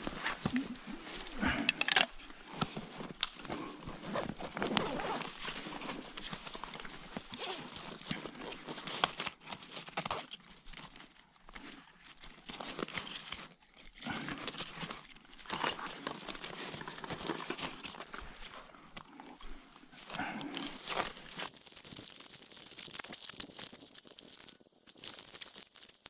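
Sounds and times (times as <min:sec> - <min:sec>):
hands rustling gear and clothing: 0:00.0 - 0:26.0.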